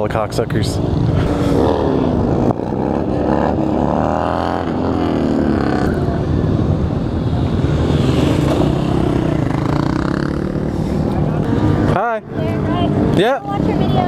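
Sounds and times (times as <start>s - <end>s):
rumble of many motorcycles: 0.0s - 14.0s
motorcycle engine revving: 0.4s - 14.0s.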